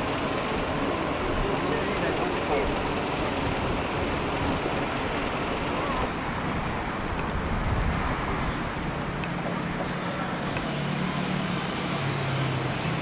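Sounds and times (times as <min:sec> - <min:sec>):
outdoor traffic noise: 0:00.0 - 0:13.0.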